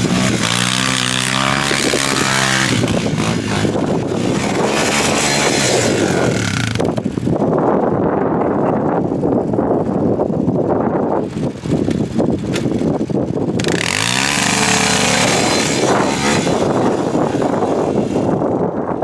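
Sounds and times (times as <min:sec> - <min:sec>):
atv engine revving: 0:00.0 - 0:07.9, 0:11.1 - 0:19.0
wind buffeting microphone: 0:00.0 - 0:19.0.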